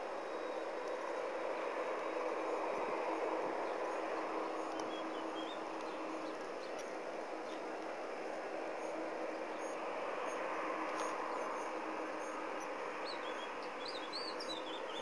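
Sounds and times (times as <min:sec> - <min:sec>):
jet engines running: 0:00.0 - 0:13.8.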